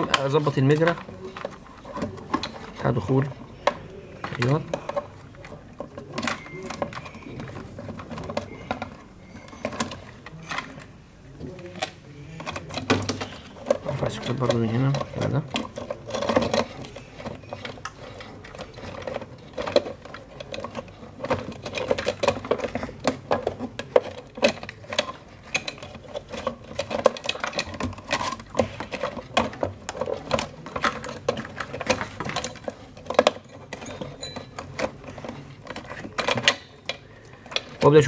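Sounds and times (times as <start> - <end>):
plastic connectors clicking and rattling: 0.0 - 38.0.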